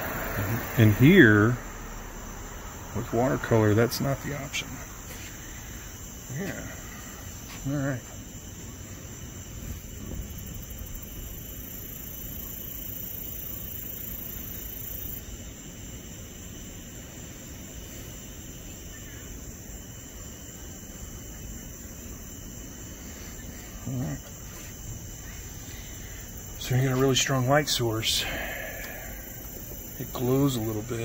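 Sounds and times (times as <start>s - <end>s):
crickets trilling: 0.0s - 31.0s
low background rumble: 0.0s - 31.0s.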